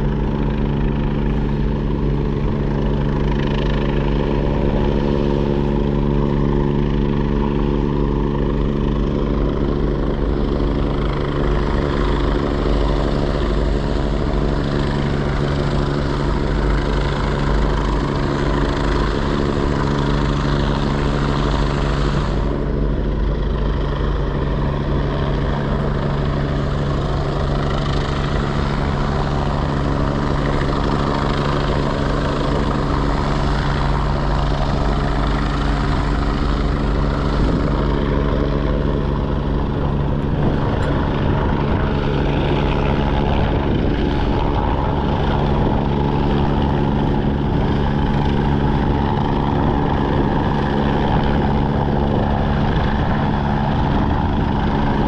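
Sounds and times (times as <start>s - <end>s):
large engine droning: 0.0s - 55.0s.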